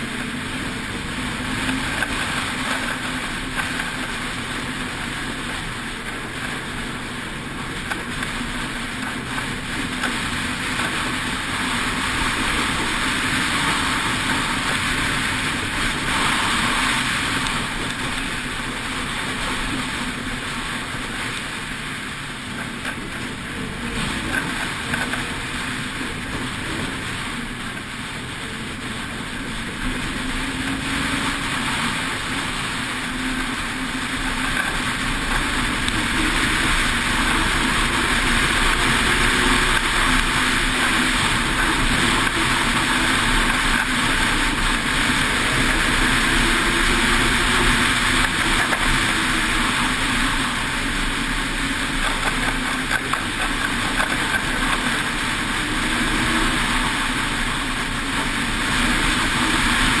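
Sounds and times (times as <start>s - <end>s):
snowmobile engine drone: 0.0s - 60.0s.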